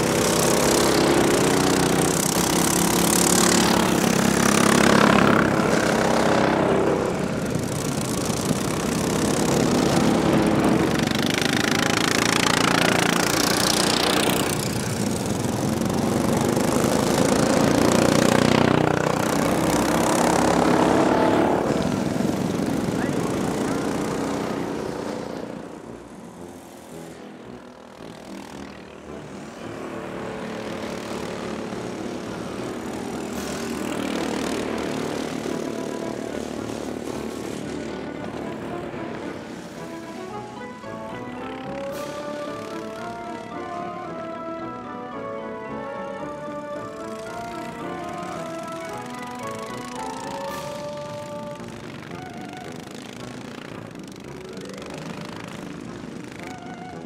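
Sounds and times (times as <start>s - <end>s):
lawn mower engines buzzing past: 0.0s - 57.0s.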